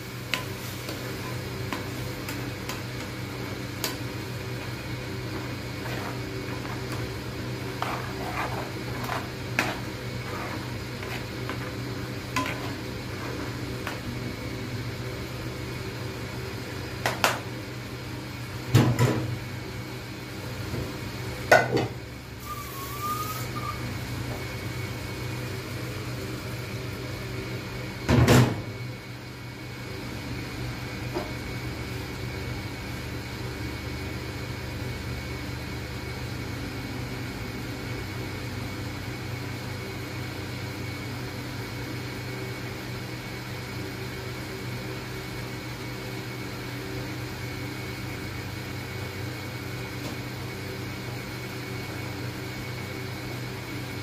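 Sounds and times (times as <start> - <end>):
electrical hum of a cooktop: 0.0 - 54.0.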